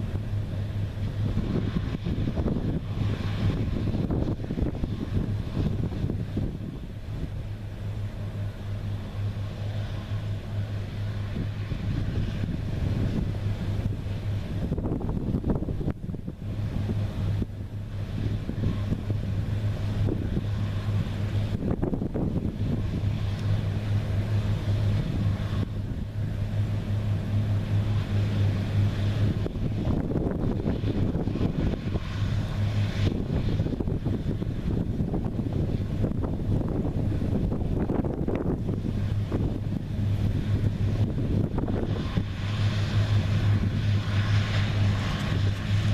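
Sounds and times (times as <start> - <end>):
combine harvester running: 0.0 - 45.9
wind rumble on microphone: 0.0 - 45.9.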